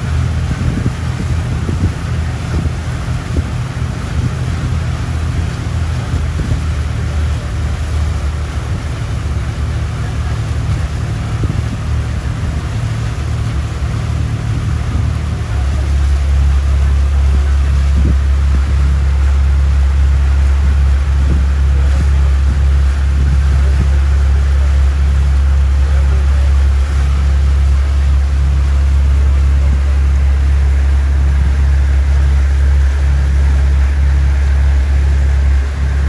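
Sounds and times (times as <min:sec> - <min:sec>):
boat engine humming: 0:00.0 - 0:36.0
water noise: 0:00.0 - 0:36.0
wind: 0:00.0 - 0:36.0.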